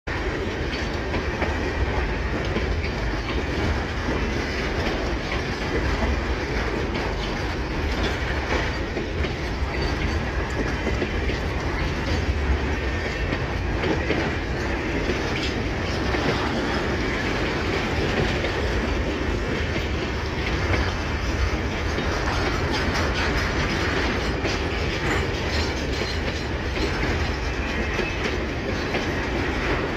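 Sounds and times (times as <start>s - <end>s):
freight train rumbling: 0.1s - 29.9s
wheels clicking over rail joints: 0.1s - 29.9s.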